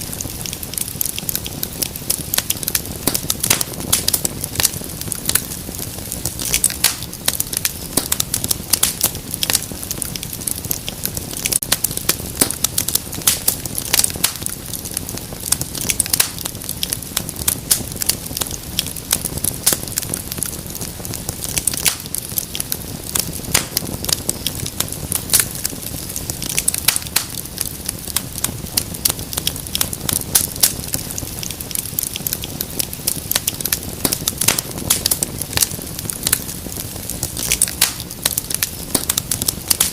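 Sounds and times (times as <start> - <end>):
flames rushing: 0.0 - 39.9
wood fire crackling and popping: 0.0 - 39.9.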